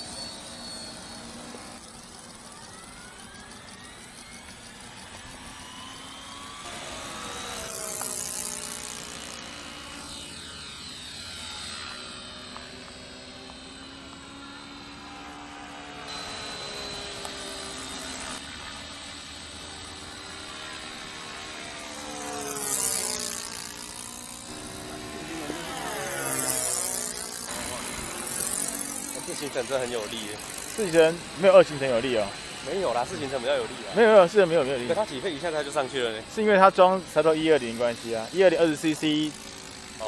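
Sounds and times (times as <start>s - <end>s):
model plane engine in flight: 0.0s - 40.0s.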